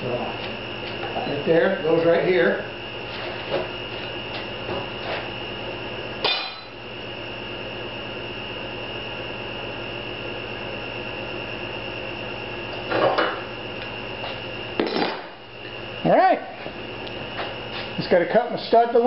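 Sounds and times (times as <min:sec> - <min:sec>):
steady hum with high whine: 0:00.0 - 0:19.0.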